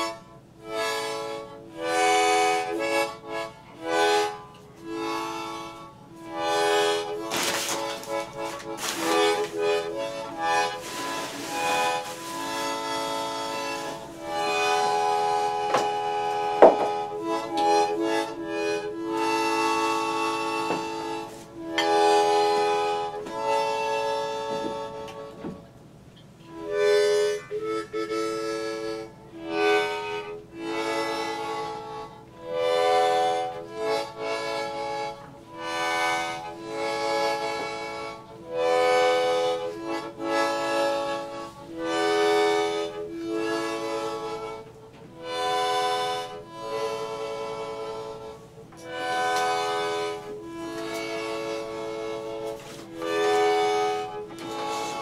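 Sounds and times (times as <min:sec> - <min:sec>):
harmonica playing slow tune: 0:00.0 - 0:55.0.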